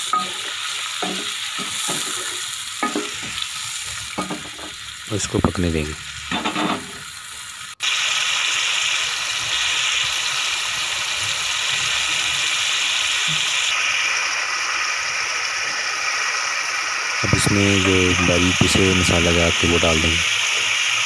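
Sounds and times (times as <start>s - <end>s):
masala sizzling and bubbling in pan: 0.0s - 21.0s.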